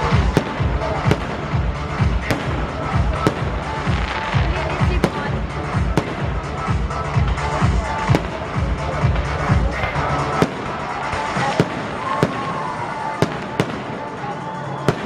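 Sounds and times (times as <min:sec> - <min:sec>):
fireworks bangs: 0:00.0 - 0:15.0
loud music with bass beat: 0:00.0 - 0:15.0.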